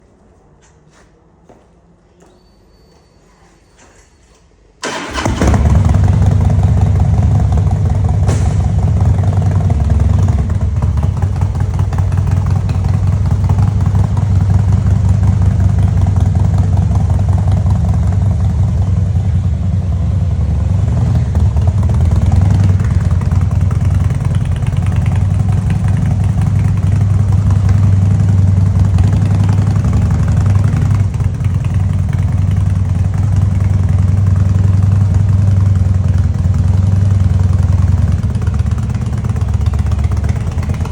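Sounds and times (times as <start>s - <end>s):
motorcycle engine starting and idling: 4.8s - 40.9s.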